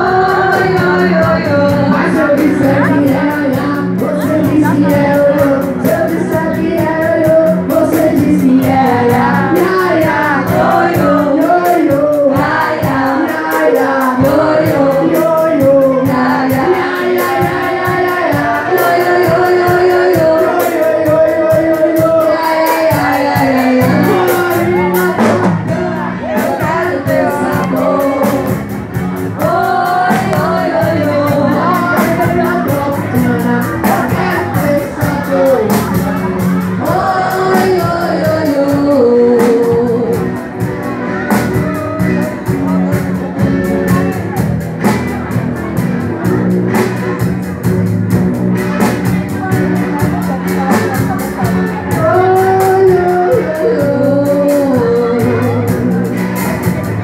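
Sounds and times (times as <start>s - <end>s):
congas: 0.0s - 57.0s
drum kit: 0.0s - 57.0s
electric guitars: 0.0s - 57.0s
person singing: 0.0s - 57.0s.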